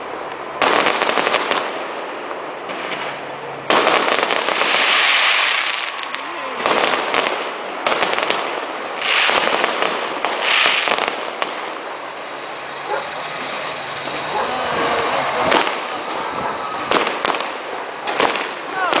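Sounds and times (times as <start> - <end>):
crackling hiss of fireworks: 0.0 - 19.0
din of firework bursts: 0.4 - 19.0
fireworks bangs: 0.5 - 19.0.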